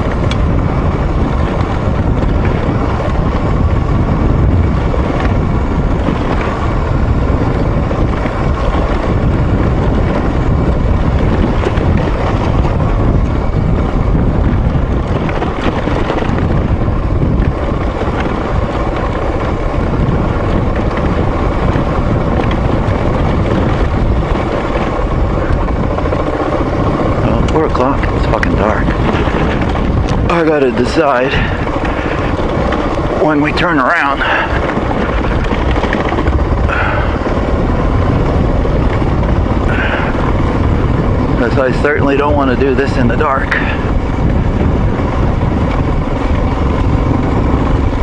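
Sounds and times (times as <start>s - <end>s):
dirt bike engine running: 0.0s - 48.0s
wind buffeting the microphone: 0.0s - 48.0s.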